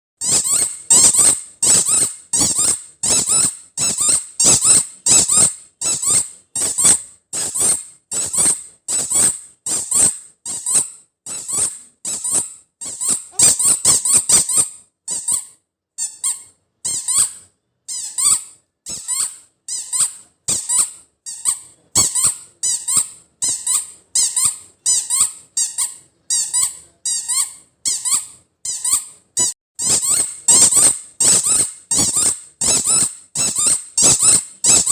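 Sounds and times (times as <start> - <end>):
squeaky toy ball squeaks: 0.2 - 34.9.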